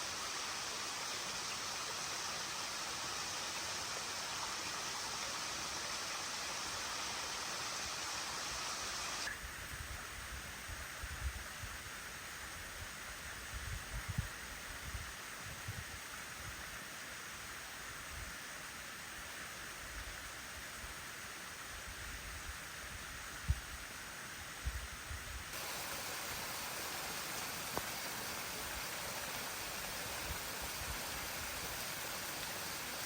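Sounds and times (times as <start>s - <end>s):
waterfall hiss: 0.0s - 33.0s.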